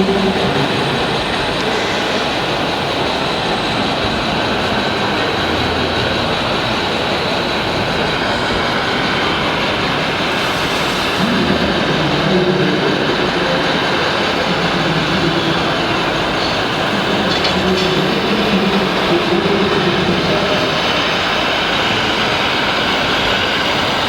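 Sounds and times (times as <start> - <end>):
whirring of model construction machines: 0.0 - 24.0.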